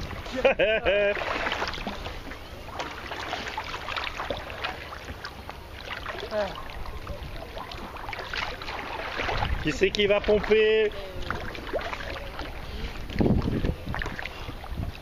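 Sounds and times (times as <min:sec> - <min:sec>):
water lapping against kayak hulls: 0:00.0 - 0:15.0.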